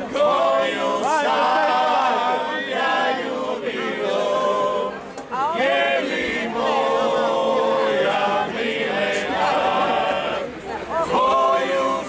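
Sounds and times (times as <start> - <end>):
men singing in harmony: 0.0 - 5.0, 5.6 - 12.0.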